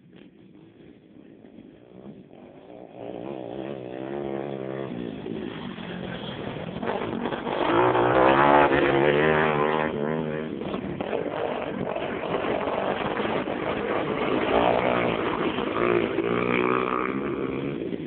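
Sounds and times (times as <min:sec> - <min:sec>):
pit bike engine revving: 0:00.0 - 0:18.0.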